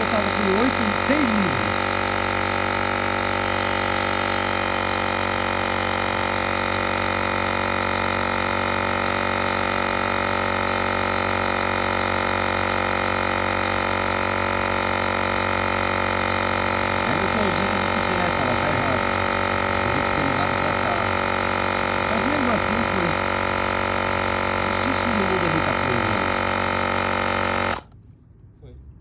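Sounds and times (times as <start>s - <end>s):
air compressor buzzing drone: 0.0s - 28.0s.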